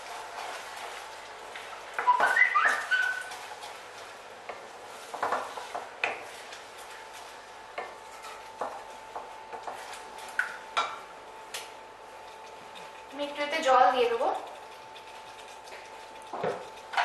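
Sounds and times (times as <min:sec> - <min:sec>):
spatula stirring thick gravy: 0:00.0 - 0:02.1, 0:02.8 - 0:17.0
spatula knocking and scraping pan: 0:02.0 - 0:11.1, 0:12.2 - 0:17.0.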